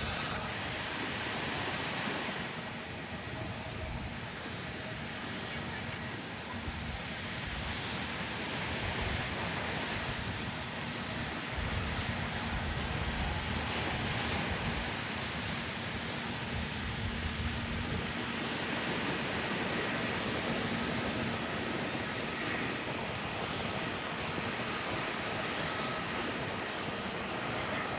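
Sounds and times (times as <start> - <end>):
surf washing onto beach: 0.0 - 4.6, 7.1 - 27.9
wind buffeting microphone: 0.0 - 27.9.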